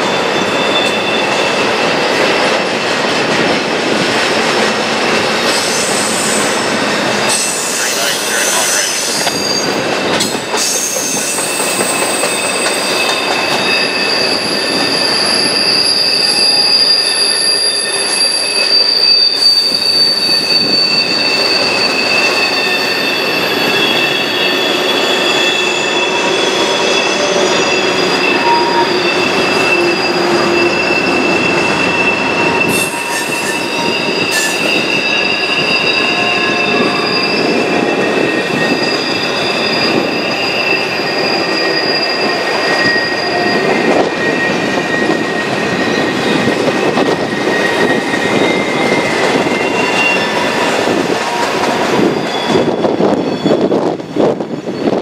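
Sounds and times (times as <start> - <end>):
train wheels squealing: 0.0 - 2.9, 5.3 - 55.0
rumble and clatter of train cars: 0.0 - 55.0.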